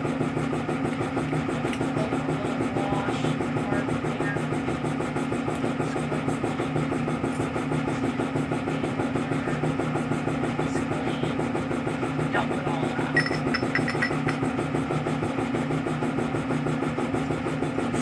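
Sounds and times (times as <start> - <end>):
motor humming with fast pulsing: 0.0 - 18.0.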